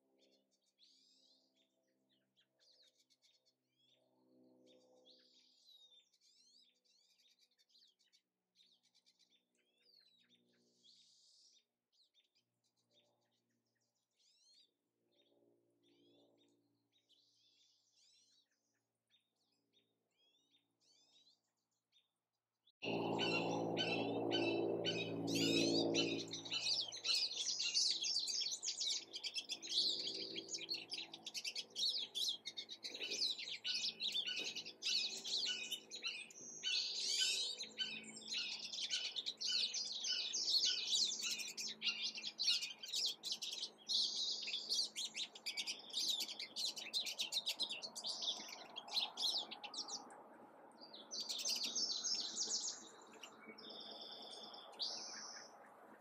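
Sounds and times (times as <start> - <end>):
songbirds chirping: 0.0 - 22.1, 22.8 - 56.0.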